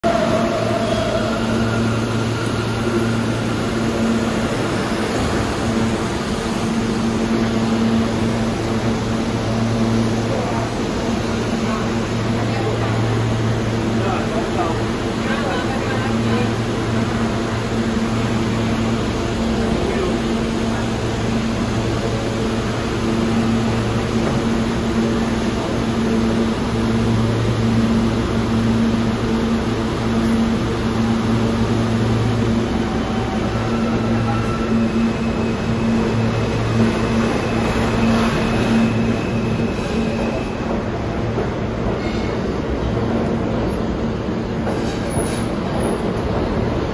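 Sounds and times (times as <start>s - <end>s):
train whining tones: 0.0s - 14.8s, 15.4s - 42.6s
subway train humming: 0.0s - 46.9s.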